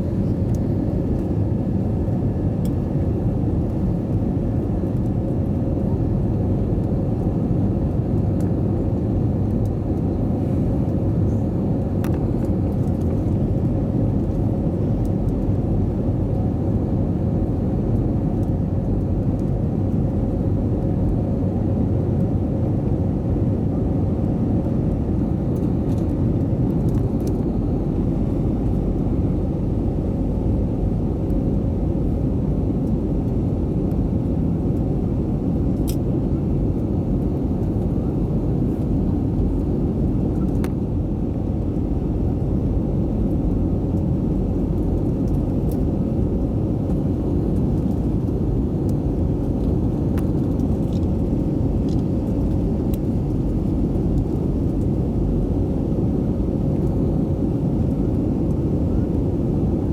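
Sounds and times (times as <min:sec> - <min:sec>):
jet engines rumbling: 0:00.0 - 0:16.1, 0:22.8 - 0:59.8.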